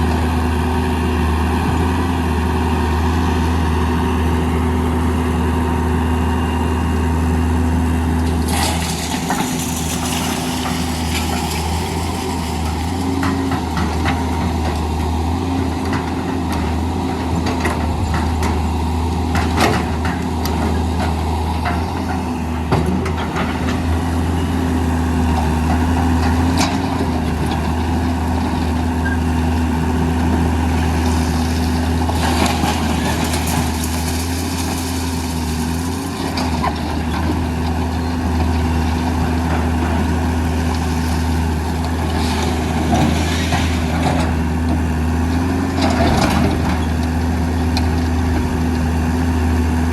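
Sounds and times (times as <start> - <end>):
diesel engines running: 0.0 - 49.9.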